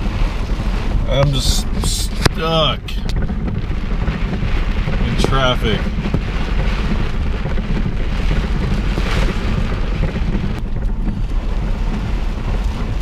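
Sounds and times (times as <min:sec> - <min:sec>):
heavy rain on a car: 0:00.0 - 0:13.0
steady low rumble: 0:00.0 - 0:13.0.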